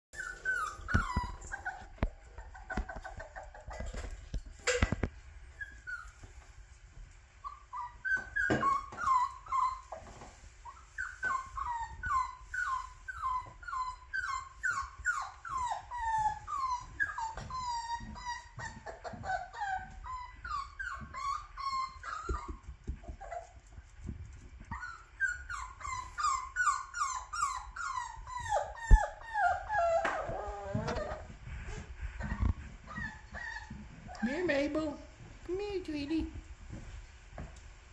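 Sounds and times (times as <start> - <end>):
puppy whining: 0.1 - 6.6, 7.3 - 34.7.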